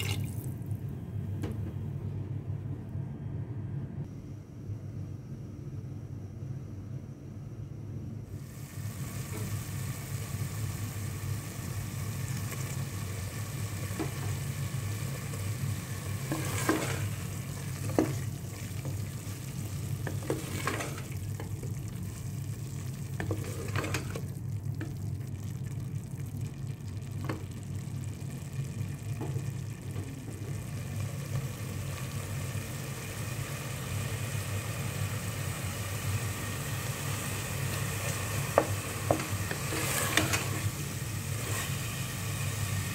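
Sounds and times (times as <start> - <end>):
steady low hum: 0.0 - 42.9
meat sizzling: 8.5 - 42.9.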